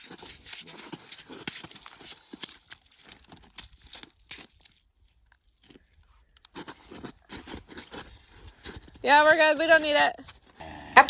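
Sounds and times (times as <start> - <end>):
soft crunching and crinkling: 0.0 - 11.0.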